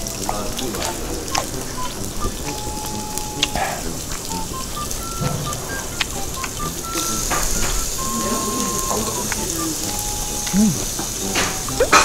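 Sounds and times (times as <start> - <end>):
eel sizzling on grill: 0.0 - 11.8.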